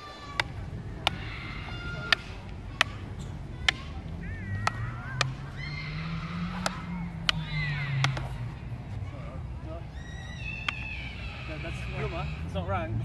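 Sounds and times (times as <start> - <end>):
fighting sticks clacking: 0.0 - 9.6, 10.2 - 12.1.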